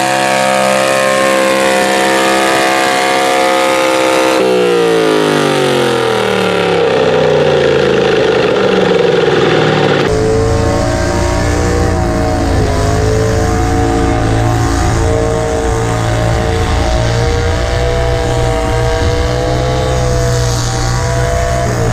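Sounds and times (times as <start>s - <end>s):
tractor engine running hard: 0.0s - 21.9s.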